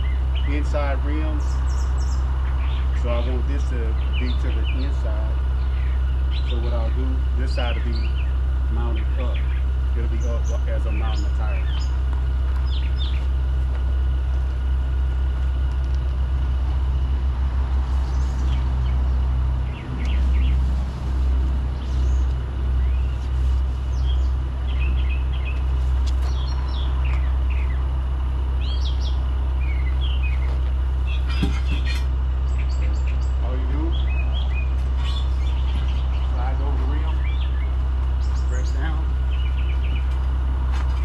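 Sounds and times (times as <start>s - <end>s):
birds chirping: 0.0s - 41.0s
engine idling: 0.0s - 41.0s.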